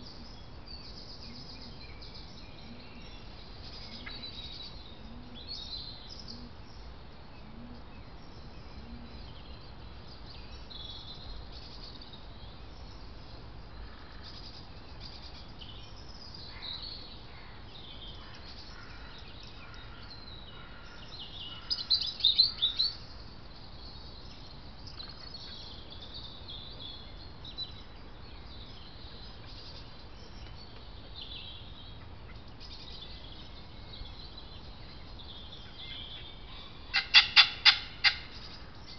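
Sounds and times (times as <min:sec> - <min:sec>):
background hiss: 0:00.0 - 0:38.9
woodland birds singing: 0:00.0 - 0:38.9.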